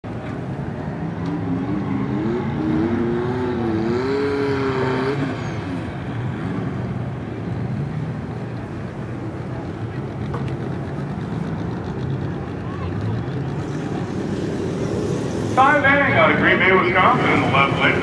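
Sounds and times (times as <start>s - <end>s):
car engine revving: 1.0s - 8.3s, 9.8s - 18.0s.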